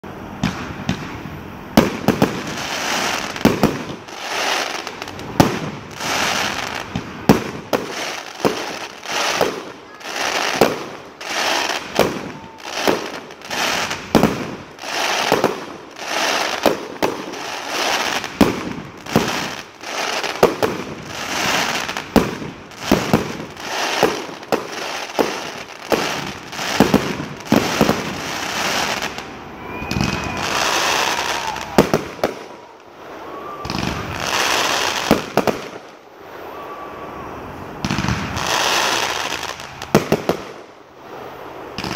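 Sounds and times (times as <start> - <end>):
fireworks bursting with sharp bangs: 0.0 - 41.9
fireworks hiss: 0.2 - 41.9.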